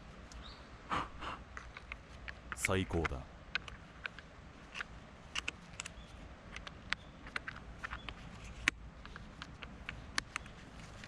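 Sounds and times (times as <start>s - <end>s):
light clicks and taps: 1.5s - 11.0s.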